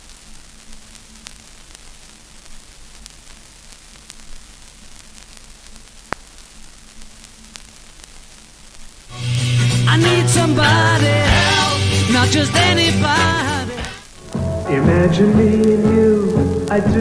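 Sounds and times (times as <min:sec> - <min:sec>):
vinyl record hiss: 0:00.0 - 0:17.0.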